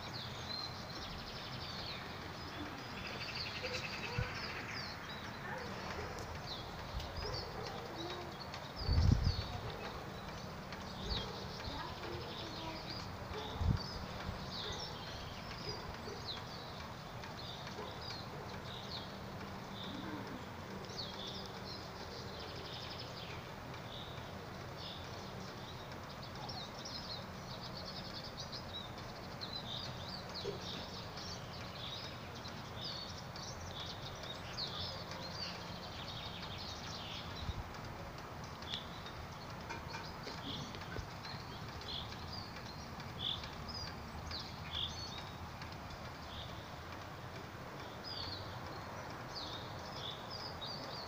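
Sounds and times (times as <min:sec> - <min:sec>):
background hiss: 0:00.0 - 0:51.0
songbirds chirping: 0:00.0 - 0:51.0.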